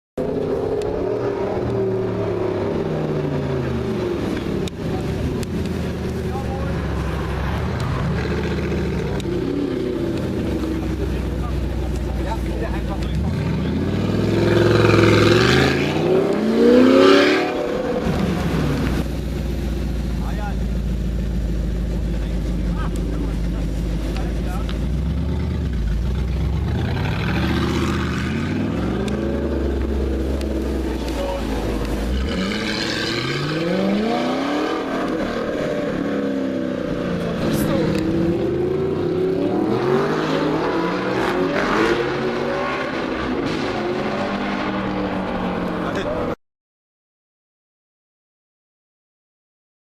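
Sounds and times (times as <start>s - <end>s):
sports car accelerating hard: 0.2s - 19.1s, 21.4s - 46.4s.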